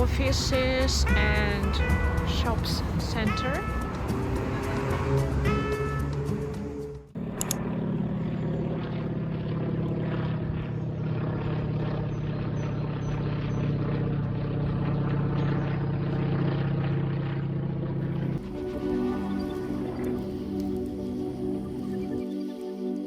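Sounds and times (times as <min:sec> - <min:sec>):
car engine and road drone: 0:00.0 - 0:22.3.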